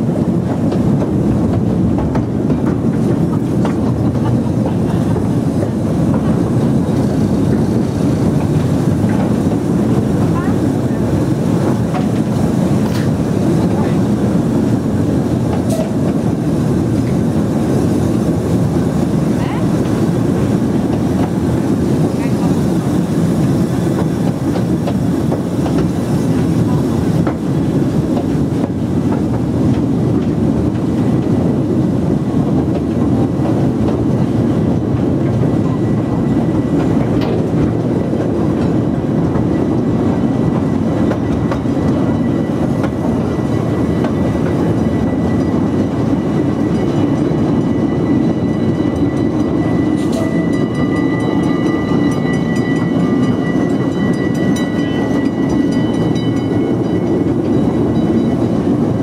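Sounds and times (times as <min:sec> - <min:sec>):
train carriage wheels rumbling: 0:00.0 - 0:59.0.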